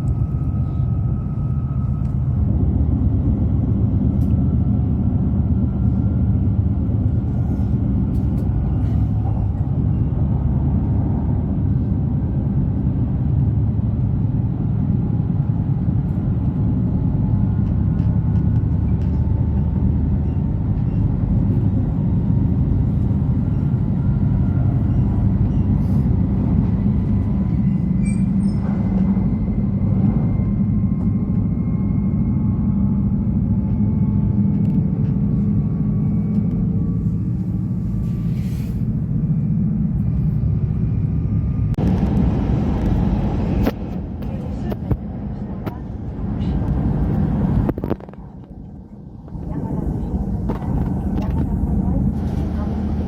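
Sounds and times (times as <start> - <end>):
train rumble inside cabin: 0.0 - 53.0.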